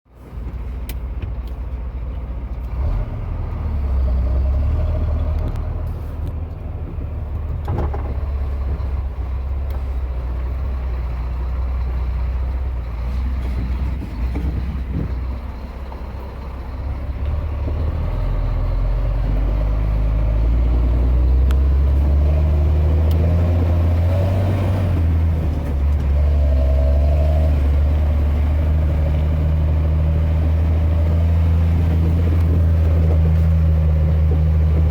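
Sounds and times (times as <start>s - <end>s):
truck diesel engine working hard: 0.2s - 34.9s.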